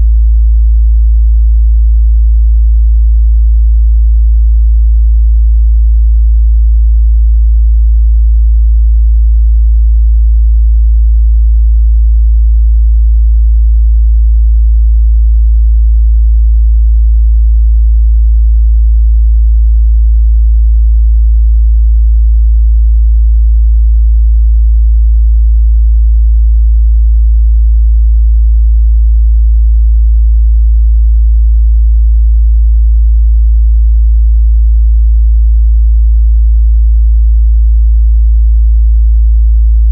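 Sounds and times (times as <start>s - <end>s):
low sine test tone: 0.0s - 39.9s.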